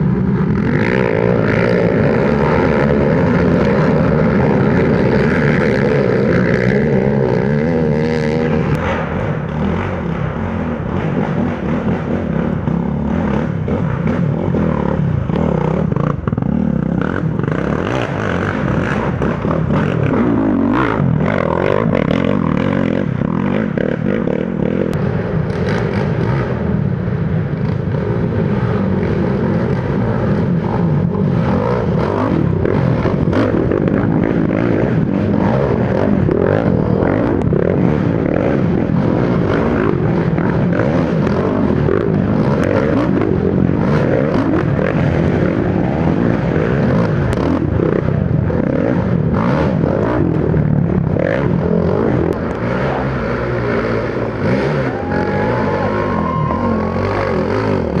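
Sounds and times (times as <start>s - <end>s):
atv engines revving: 0.0s - 58.0s.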